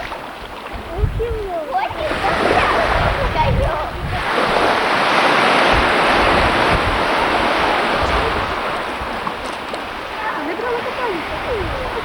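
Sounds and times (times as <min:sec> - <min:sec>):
wave breaking and washing up: 0:00.0 - 0:12.0
wind rumbling on microphone: 0:00.0 - 0:12.0.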